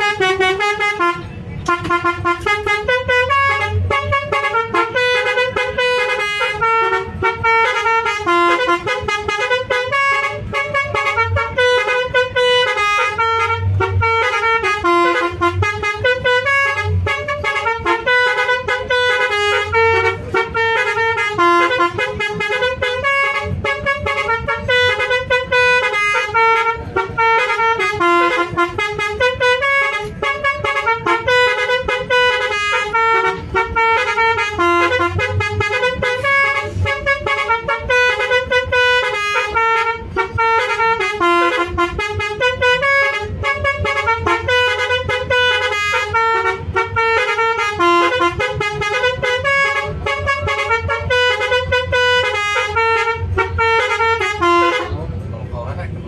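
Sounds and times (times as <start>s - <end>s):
multi-tone bus horn melody: 0.0s - 56.0s.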